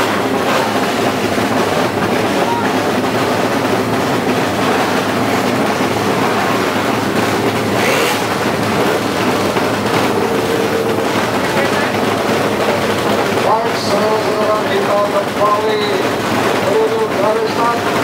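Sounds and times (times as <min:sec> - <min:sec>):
motorcycle engines roaring: 0:00.0 - 0:18.0.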